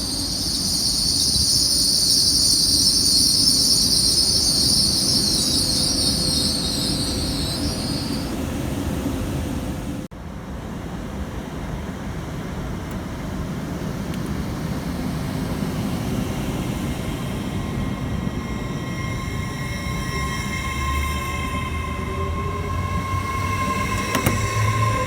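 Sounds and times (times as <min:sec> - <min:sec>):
train whining tone: 0:00.0 - 0:10.1, 0:11.6 - 0:25.0
train wheels rumbling on rails: 0:00.0 - 0:25.0.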